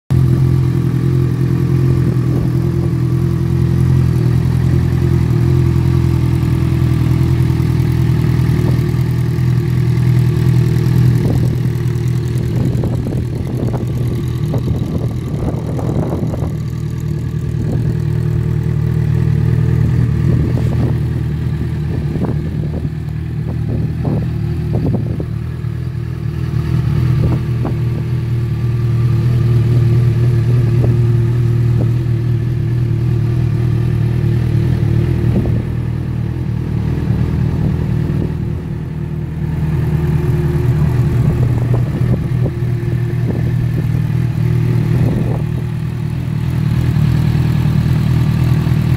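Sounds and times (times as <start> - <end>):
motorcycle engine idling: 0.1 - 48.9.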